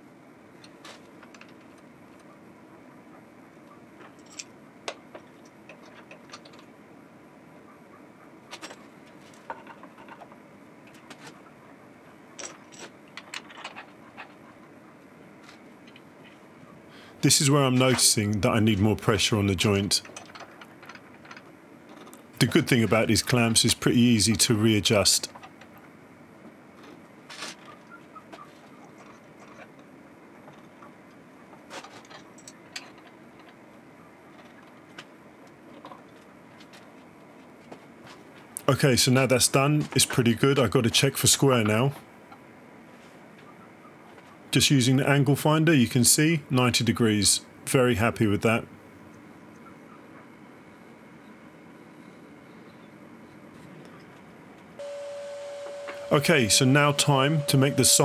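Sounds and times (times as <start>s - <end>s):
low steady hiss: 0.0s - 58.0s.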